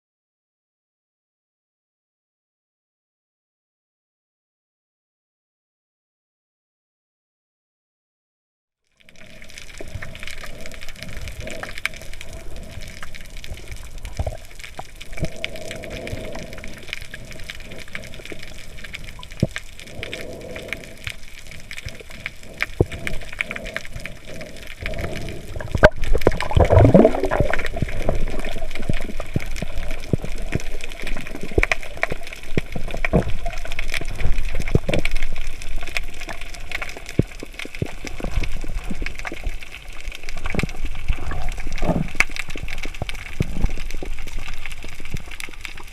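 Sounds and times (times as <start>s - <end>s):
underwater water noise: 8.8s - 45.9s.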